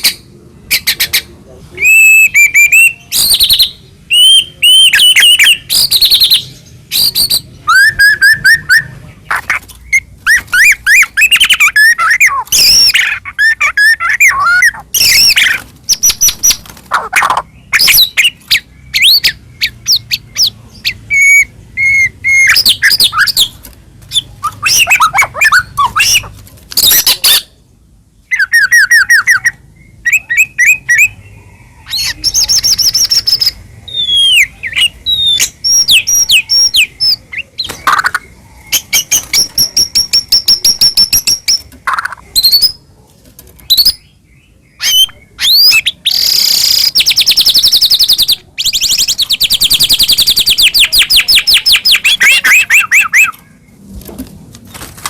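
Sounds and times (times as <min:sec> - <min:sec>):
songbird singing: 0:00.0 - 0:54.2.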